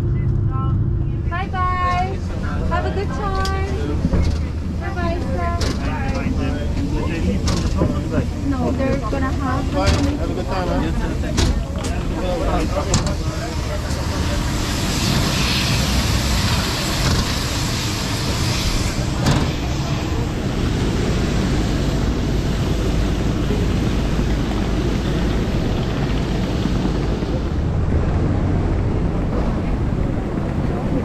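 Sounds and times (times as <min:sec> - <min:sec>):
aircraft and ground equipment rumble: 0:00.0 - 0:31.0.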